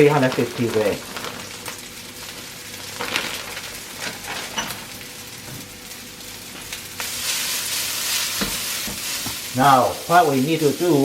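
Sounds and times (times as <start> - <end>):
oil sizzling in a wok: 0.0 - 11.0.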